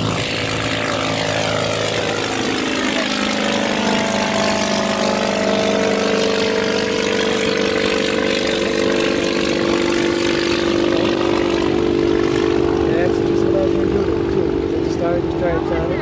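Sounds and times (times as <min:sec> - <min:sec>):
ultralight aircraft flying overhead: 0:00.0 - 0:16.0.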